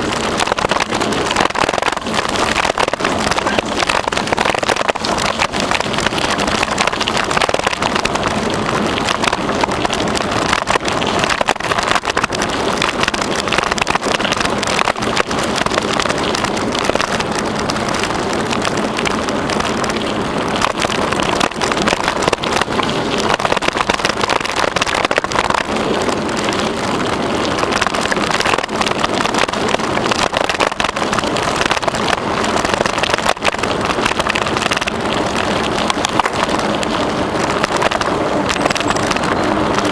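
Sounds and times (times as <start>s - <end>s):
bicycle rattles and clicks: 0.0s - 39.9s
bicycle tyres rolling on path: 0.0s - 39.9s
wind on microphone: 0.0s - 39.9s.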